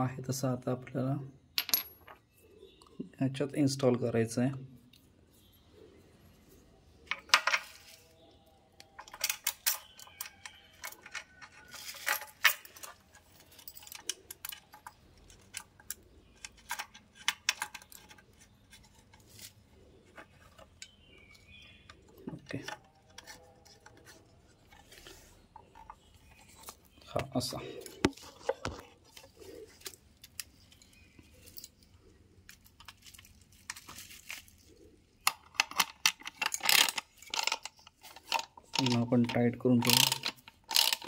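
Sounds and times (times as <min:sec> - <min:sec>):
small parts clicking and clinking: 0:01.5 - 0:02.4, 0:07.0 - 0:41.0.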